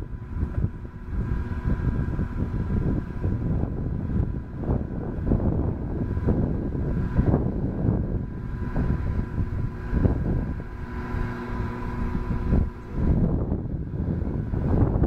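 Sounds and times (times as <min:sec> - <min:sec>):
faint steady hum: 0:00.0 - 0:15.0
wind buffeting microphone: 0:00.0 - 0:15.0.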